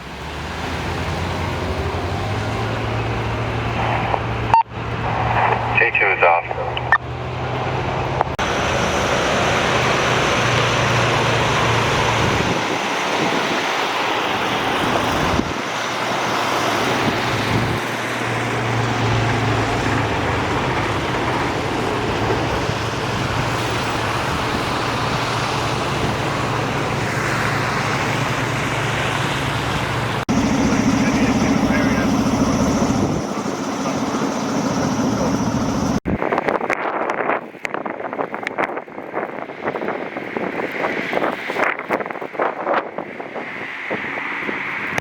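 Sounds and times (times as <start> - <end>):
low engine hum: 0.0 - 36.1
road noise: 0.0 - 45.0.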